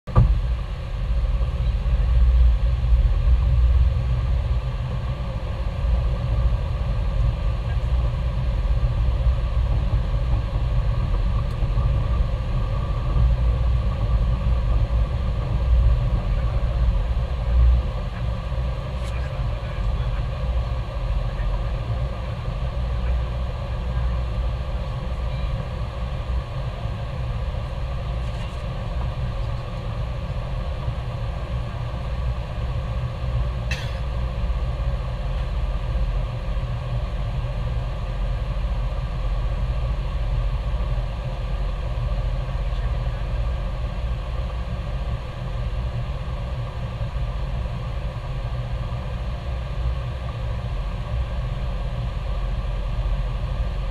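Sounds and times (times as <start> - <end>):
aircraft engine drone: 0.1 - 53.9.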